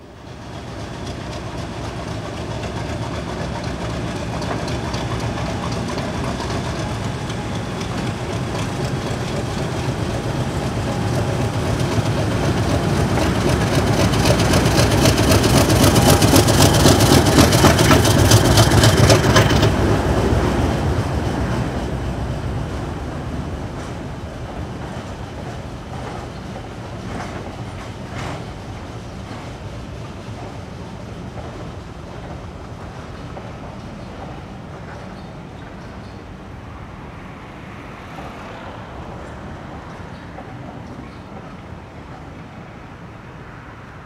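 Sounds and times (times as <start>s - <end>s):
diesel locomotive engine: 0.0s - 44.0s
train wheels clicking: 0.3s - 36.3s.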